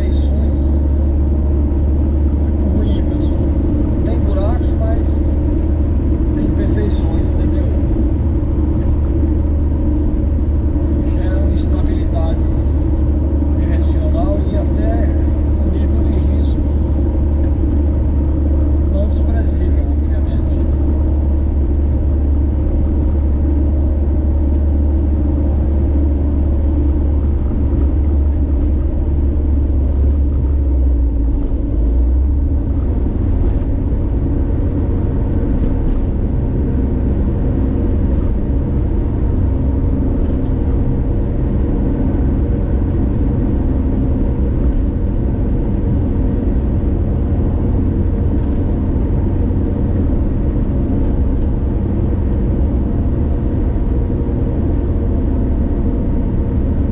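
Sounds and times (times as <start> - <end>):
car engine and road rumble: 0.0 - 56.9.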